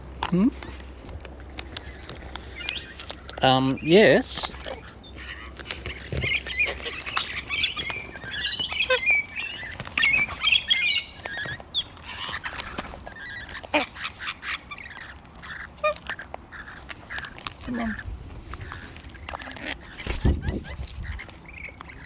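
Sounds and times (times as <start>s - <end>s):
parrots squawking and chattering: 0.0s - 22.0s.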